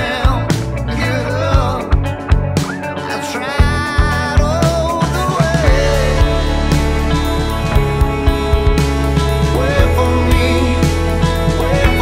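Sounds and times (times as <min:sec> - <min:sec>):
song with drum beat and melody: 0:00.0 - 0:12.0.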